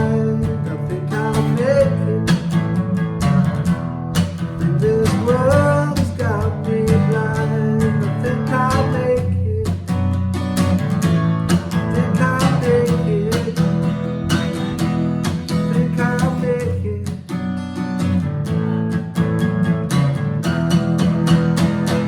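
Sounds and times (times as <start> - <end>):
acoustic guitar strumming: 0.0 - 22.0
guitar melody line: 0.0 - 22.0.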